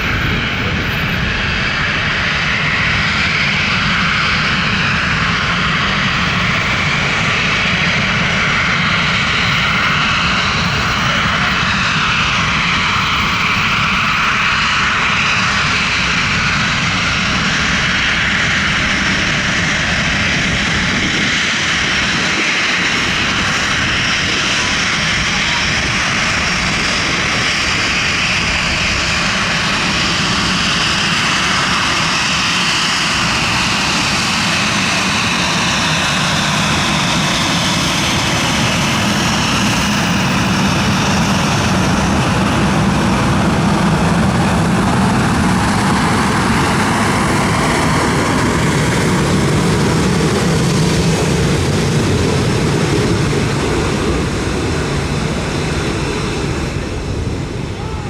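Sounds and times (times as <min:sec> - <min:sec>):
jet engines roaring with whine: 0:00.0 - 0:58.0.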